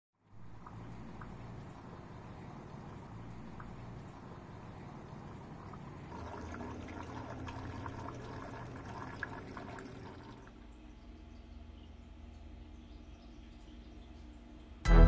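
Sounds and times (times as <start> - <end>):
water trickling into pond: 0.2 - 14.9.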